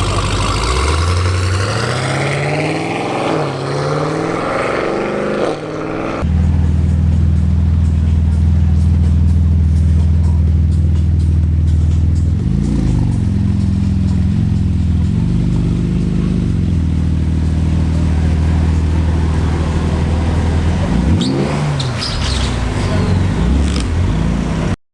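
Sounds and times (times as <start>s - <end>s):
car engine idling: 0.0s - 4.7s, 6.2s - 24.8s
engine throttle blips: 0.0s - 24.8s.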